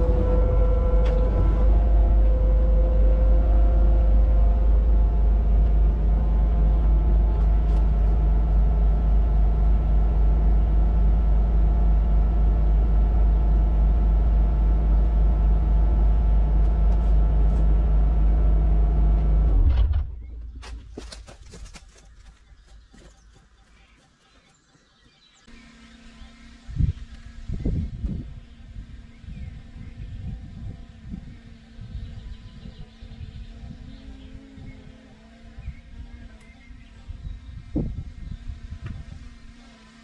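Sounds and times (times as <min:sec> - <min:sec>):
diesel engine rumbling: 0:00.0 - 0:23.6, 0:25.4 - 0:40.0.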